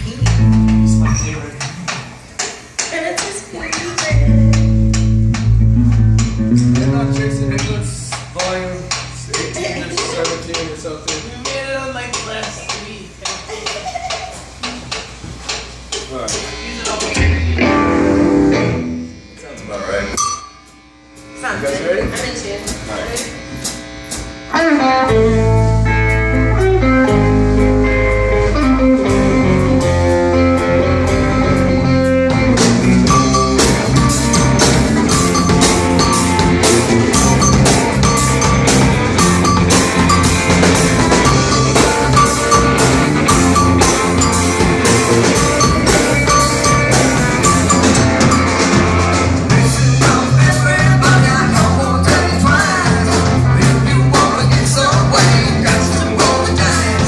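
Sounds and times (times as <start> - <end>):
bass guitar: 0.0 - 2.4, 4.0 - 12.4, 15.8 - 19.3, 22.1 - 57.0
drum kit: 0.0 - 13.6, 14.4 - 19.1, 20.2 - 57.0
guitar: 0.0 - 57.0.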